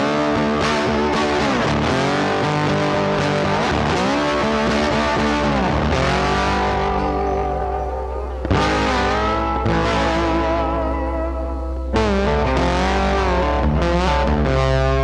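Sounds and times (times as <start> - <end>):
instrumental music with bending melody: 0.0 - 15.0
steady low bass note: 0.0 - 15.0.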